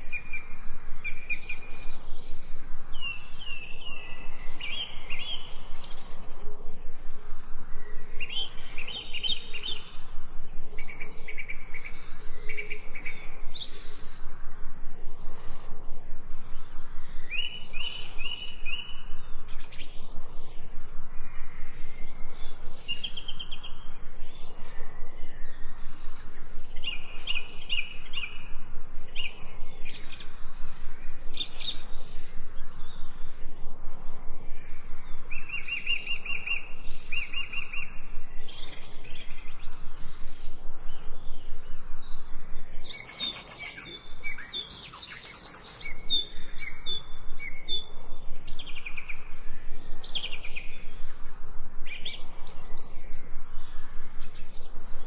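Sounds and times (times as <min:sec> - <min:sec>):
forest birds singing and chirping: 0:00.0 - 0:55.0.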